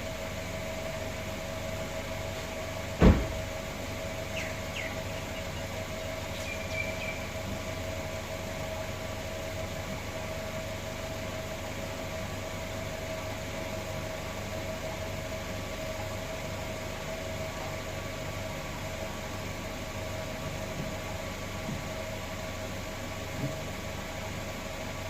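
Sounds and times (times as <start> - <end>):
machine hum with mid-pitched tone: 0.0 - 25.0.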